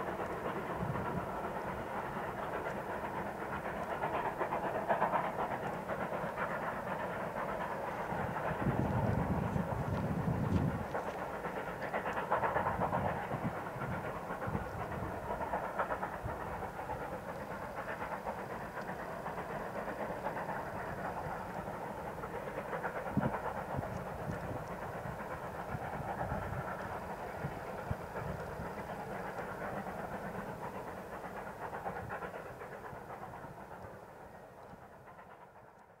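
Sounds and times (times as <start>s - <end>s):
steam locomotive exhaust beats: 0.0s - 36.0s
train wheels clattering on rail: 0.0s - 36.0s.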